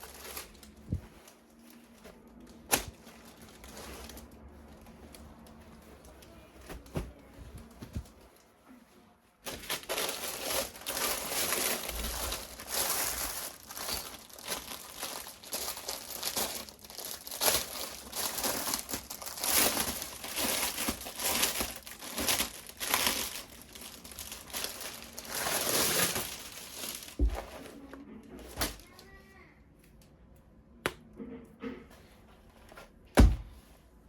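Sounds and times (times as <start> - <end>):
plastic packaging crinkling: 0.0 - 8.6, 9.4 - 29.1.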